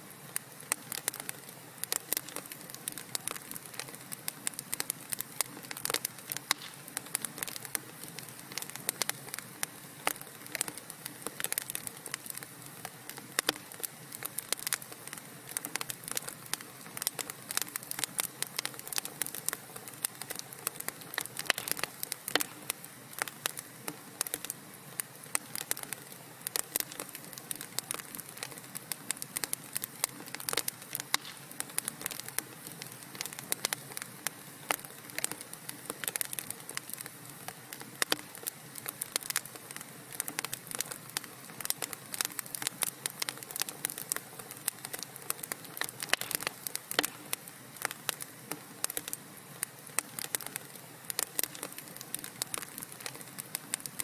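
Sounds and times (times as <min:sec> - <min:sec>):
soft steady hiss: 0:00.0 - 0:54.0
wood fire crackling and popping: 0:00.1 - 0:54.0.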